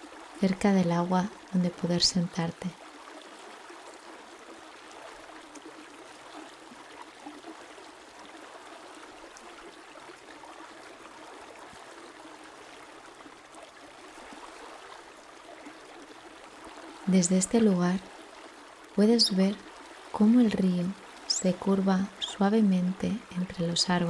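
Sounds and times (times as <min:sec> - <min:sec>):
faint water splashes: 0:00.0 - 0:24.0
river flowing: 0:00.0 - 0:24.0.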